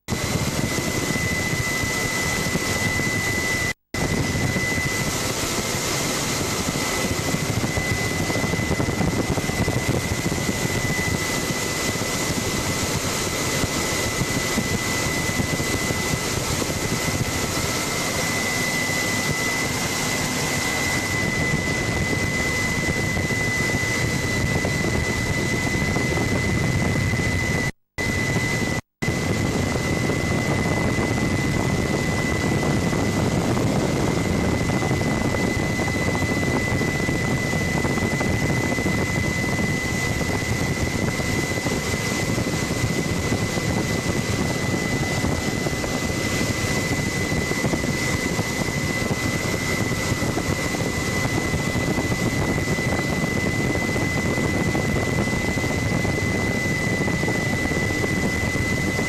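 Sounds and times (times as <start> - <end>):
helicopter drone and whine: 0.0 - 59.0.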